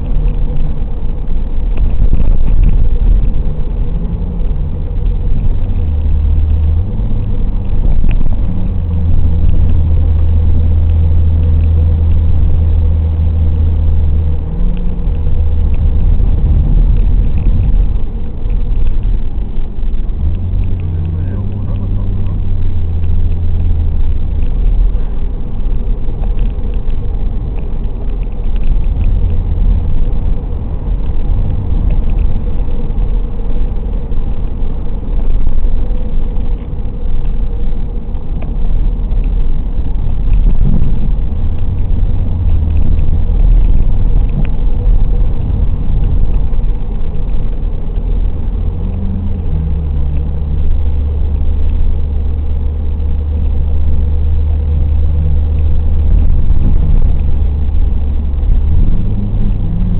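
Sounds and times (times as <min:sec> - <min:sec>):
car engine drone inside cabin: 0:00.0 - 0:59.9.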